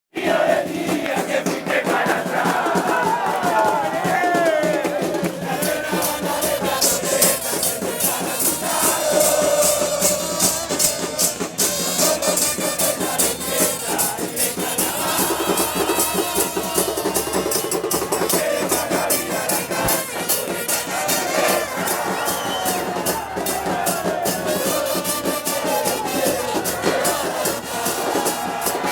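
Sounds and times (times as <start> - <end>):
crowd singing together: 0.1 - 28.9
drums: 0.1 - 28.9
fast rattling percussion: 0.4 - 28.9.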